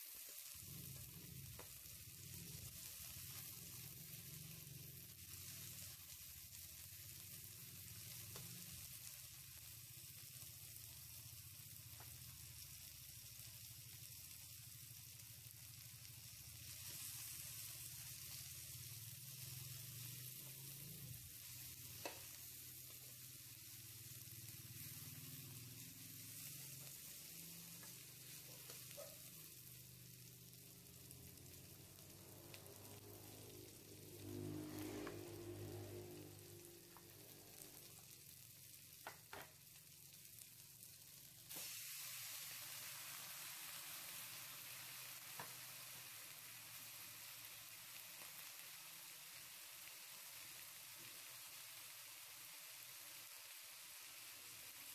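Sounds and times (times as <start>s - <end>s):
vegetables sizzling in a wok: 0.0s - 54.9s.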